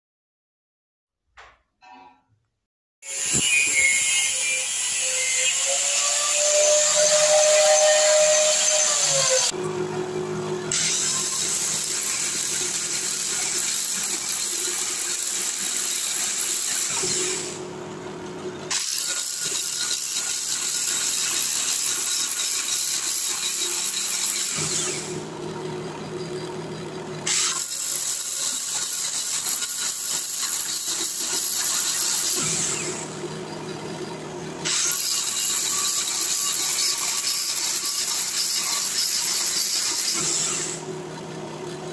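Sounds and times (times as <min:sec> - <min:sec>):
bench grinder grinding steel: 0:03.0 - 0:41.9
grinder motor hum: 0:03.1 - 0:41.9.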